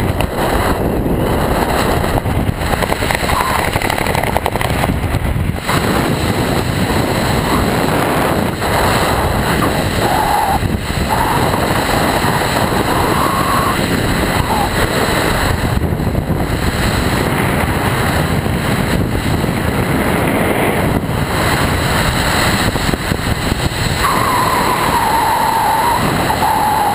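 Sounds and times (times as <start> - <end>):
wind roar on microphone: 0.0 - 26.9.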